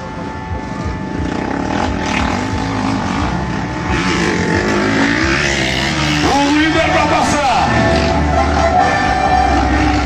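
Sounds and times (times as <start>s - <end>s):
motocross bike engines revving: 1.0s - 10.0s.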